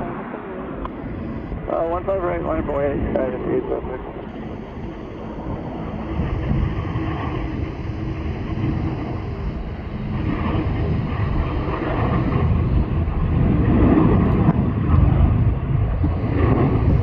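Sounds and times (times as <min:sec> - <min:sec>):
jet airliner engines rumbling: 0:00.0 - 0:17.0
wind buffeting microphone: 0:00.8 - 0:17.0.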